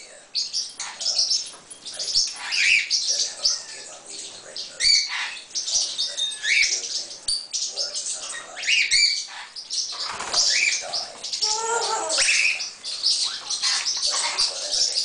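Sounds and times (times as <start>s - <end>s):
parrot chirping: 0.3s - 15.0s.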